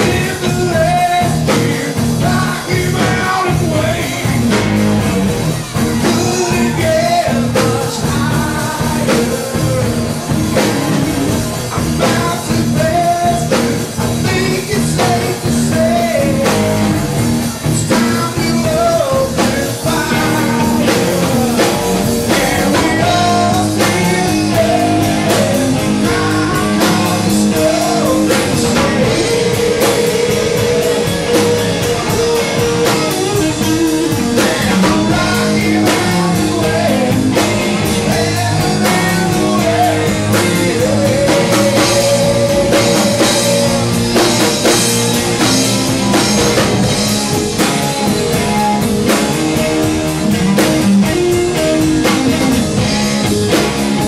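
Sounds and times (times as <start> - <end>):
lead singer singing: 0.0 - 54.0
rock band playing: 0.0 - 54.0.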